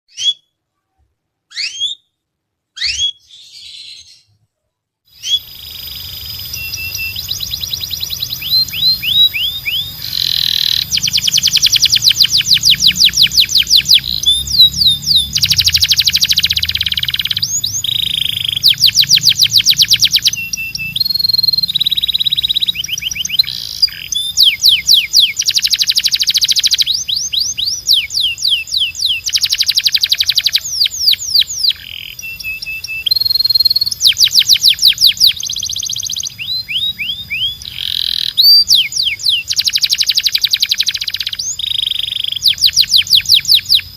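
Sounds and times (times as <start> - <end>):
canary singing trills: 0.1 - 0.6, 1.5 - 2.1, 5.1 - 43.9.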